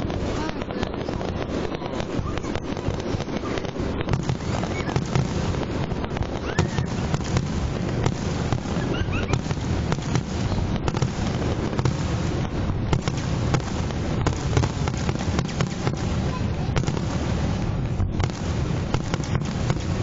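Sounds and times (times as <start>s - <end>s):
fireworks rumbling bursts: 0.0s - 20.0s
fireworks sharp cracks: 0.0s - 20.0s.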